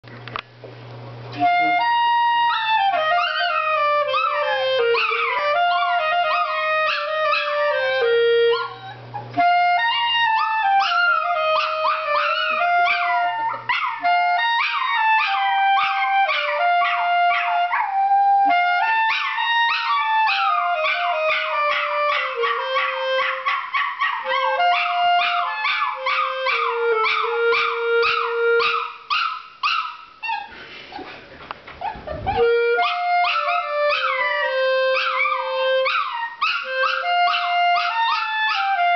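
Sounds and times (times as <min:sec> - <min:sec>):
clarinet playing slow melody: 0:01.3 - 0:23.6, 0:24.2 - 0:28.9, 0:32.2 - 0:38.9
dog howling and yipping: 0:02.4 - 0:18.0, 0:18.8 - 0:30.5, 0:31.8 - 0:38.9.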